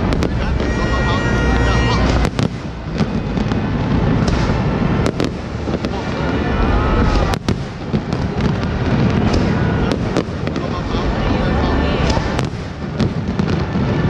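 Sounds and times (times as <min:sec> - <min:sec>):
fireworks rumble and bangs: 0:00.0 - 0:14.0.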